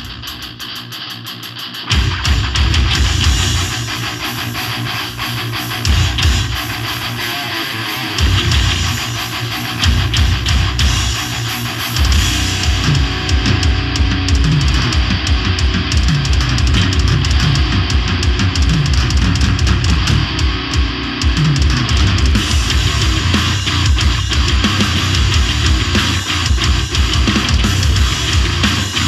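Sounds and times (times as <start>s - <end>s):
bass guitar: 0.0s - 29.0s
distorted electric guitars: 0.0s - 29.0s
fast drum kit: 0.0s - 29.0s.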